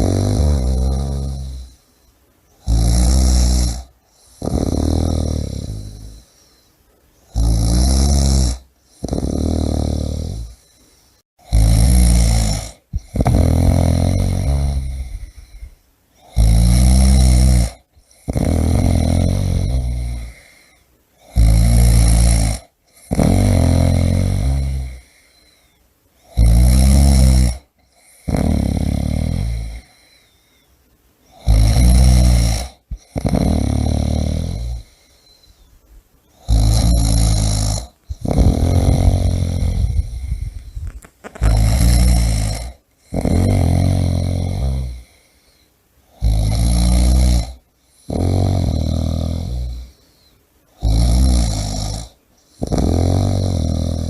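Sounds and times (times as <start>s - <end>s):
person snoring: 0.0s - 1.9s, 2.6s - 6.7s, 7.3s - 10.8s, 11.4s - 30.4s, 31.3s - 35.7s, 36.3s - 54.0s.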